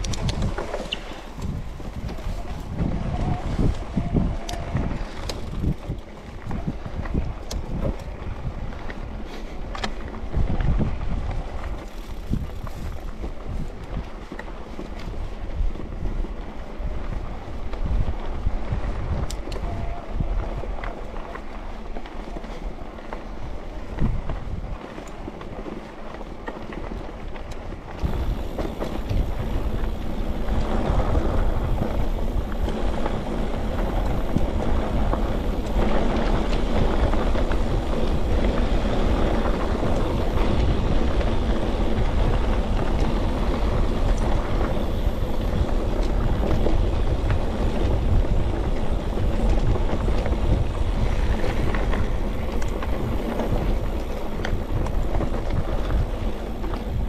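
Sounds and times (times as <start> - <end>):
bike tyres rumbling on rough track: 0.0 - 57.0
wind buffeting microphone: 0.0 - 57.0.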